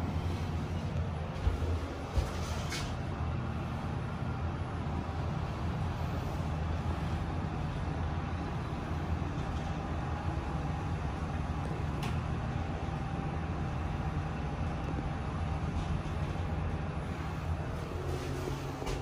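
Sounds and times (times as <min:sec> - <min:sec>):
elevator car rumble and hum: 0:00.0 - 0:19.0
faint whine: 0:00.0 - 0:19.0.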